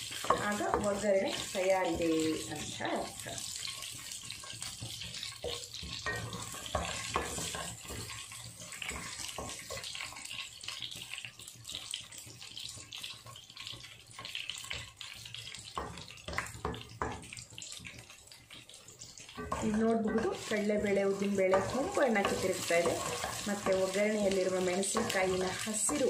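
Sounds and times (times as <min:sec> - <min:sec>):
food sizzling in hot oil: 0:00.0 - 0:26.0
wooden spatula stirring: 0:00.0 - 0:26.0.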